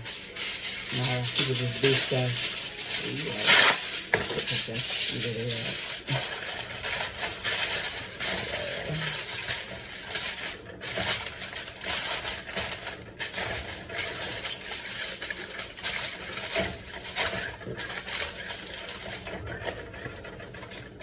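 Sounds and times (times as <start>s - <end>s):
material rustling and crinkling: 0.0s - 21.0s.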